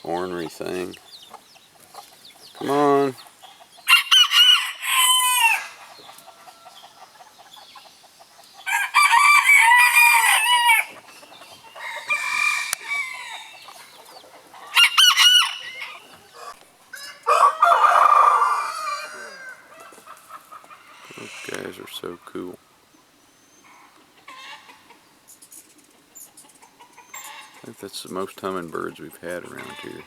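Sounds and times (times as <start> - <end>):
roosters crowing: 0.0 - 7.7, 8.3 - 22.6, 23.6 - 25.1, 29.2 - 30.0
chickens clucking: 0.0 - 30.0.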